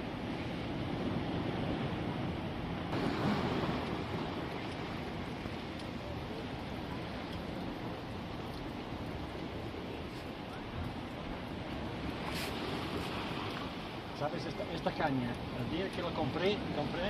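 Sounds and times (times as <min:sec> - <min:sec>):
sea surf washing in: 0:00.0 - 0:17.0.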